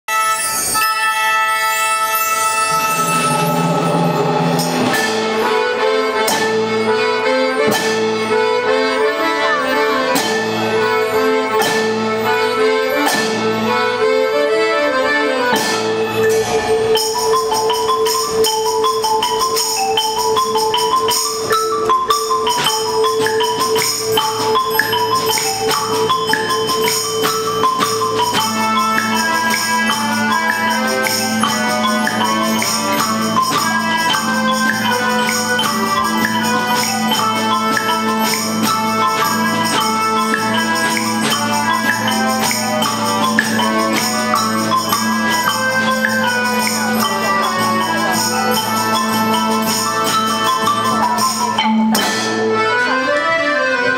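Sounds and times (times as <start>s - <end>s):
xylophone and glockenspiel melody: 0.1s - 52.9s.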